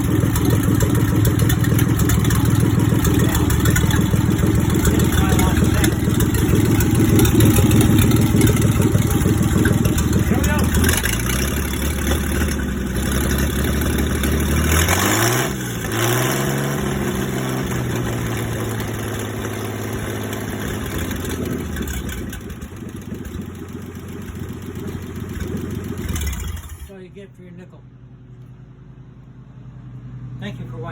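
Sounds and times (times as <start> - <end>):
engine idling: 0.0 - 30.9.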